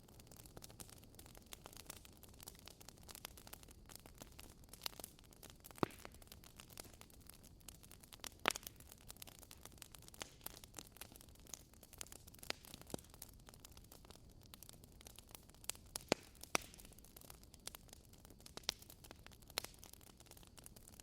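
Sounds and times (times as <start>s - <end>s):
fire pops: 0.0s - 21.0s
wood bonfire crackling: 0.0s - 21.0s.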